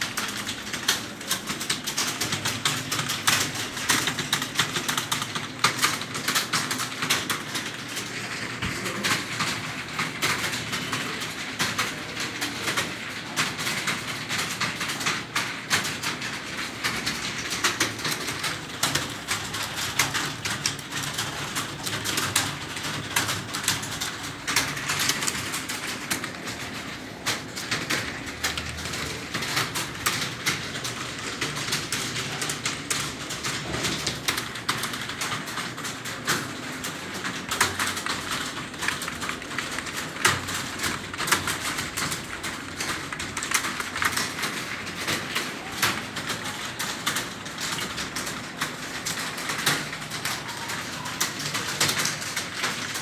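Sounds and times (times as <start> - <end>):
keyboard typing: 0.0 - 53.0.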